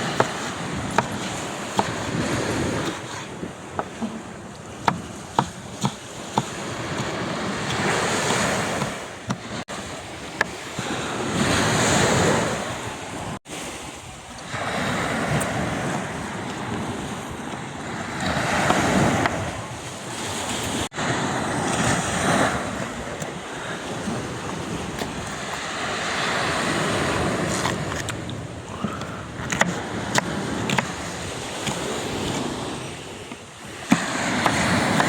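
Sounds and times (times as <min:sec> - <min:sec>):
sea waves washing in: 0:00.0 - 0:35.0
wind on microphone: 0:00.0 - 0:35.0.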